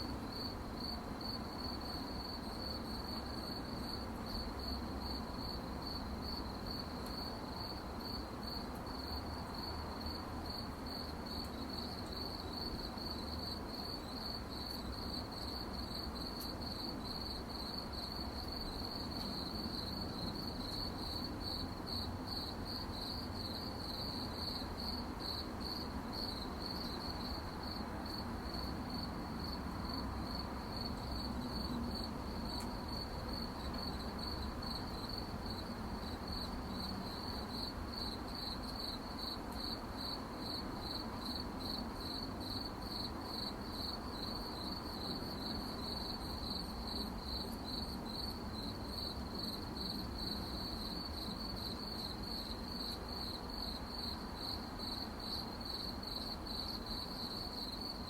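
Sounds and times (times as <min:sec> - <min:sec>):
crickets chirping: 0:00.0 - 0:58.0
faint low background hiss: 0:00.0 - 0:58.0.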